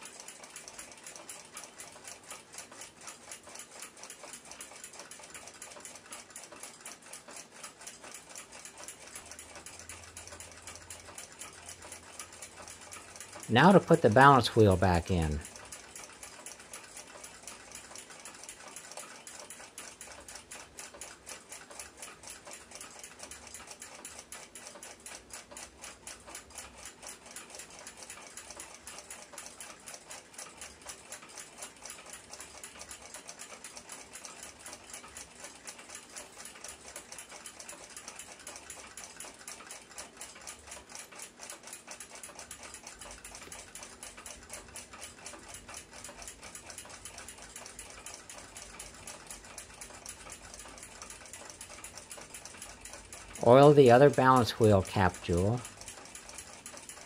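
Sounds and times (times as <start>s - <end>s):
mechanical clock ticking: 0.0s - 57.0s.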